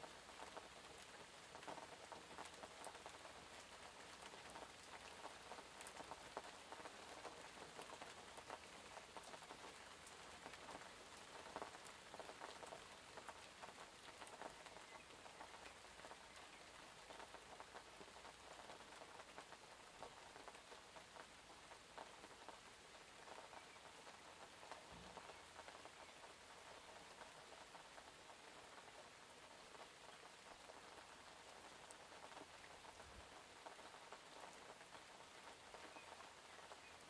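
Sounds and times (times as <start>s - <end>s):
faint steady rain: 0.0s - 37.0s.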